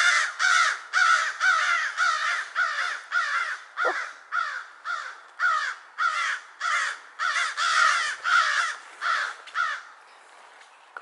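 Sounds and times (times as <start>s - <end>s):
crows cawing: 0.0s - 10.0s.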